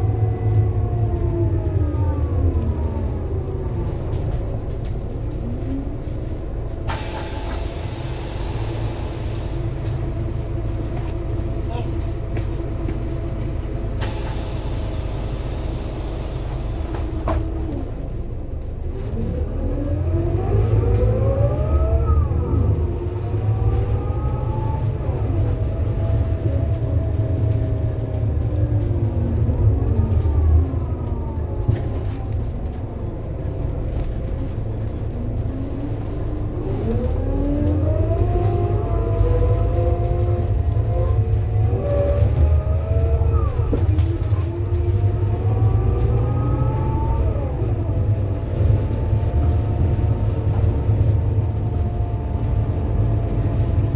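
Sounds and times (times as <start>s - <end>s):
bus engine accelerating: 0.0s - 53.9s.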